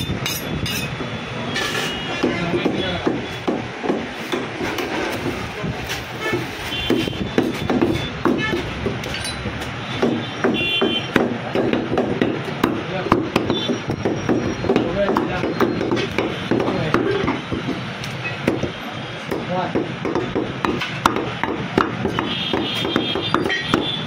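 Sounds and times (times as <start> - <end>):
cleaver chopping meat on wood: 2.2 - 5.4, 6.3 - 24.0.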